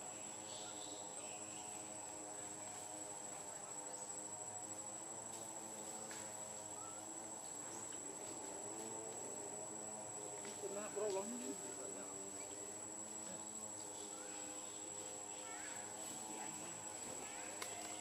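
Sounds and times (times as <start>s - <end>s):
forest insects droning: 0.0s - 18.0s.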